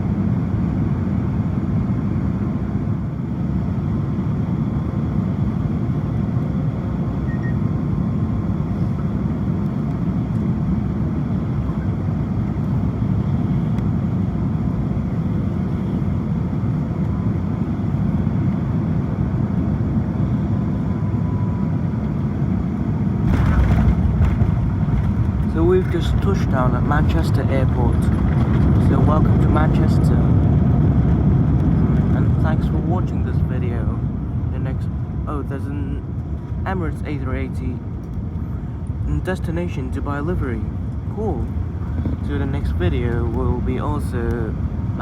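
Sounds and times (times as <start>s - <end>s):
airliner cabin rumble: 0.0s - 45.0s.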